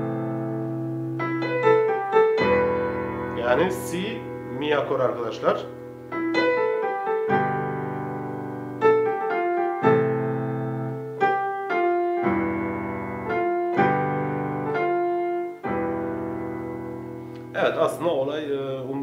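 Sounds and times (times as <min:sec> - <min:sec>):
keyboard piano melody with chords: 0:00.0 - 0:19.0.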